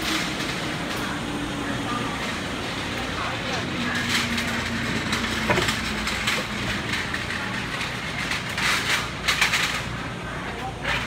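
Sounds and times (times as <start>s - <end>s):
train carriages rolling past: 0.0s - 11.0s.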